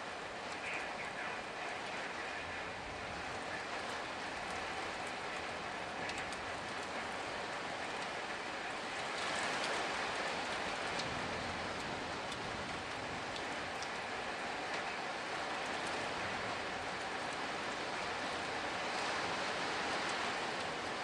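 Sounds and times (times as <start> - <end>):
raindrops ticking: 0.0 - 21.0
steady rain: 0.0 - 21.0.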